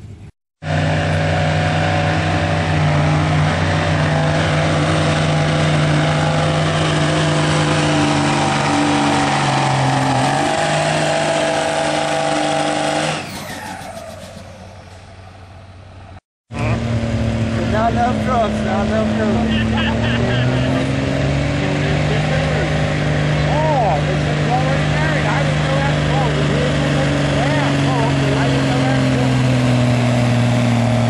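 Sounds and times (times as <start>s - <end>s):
truck engine at high revs: 0.0s - 31.0s.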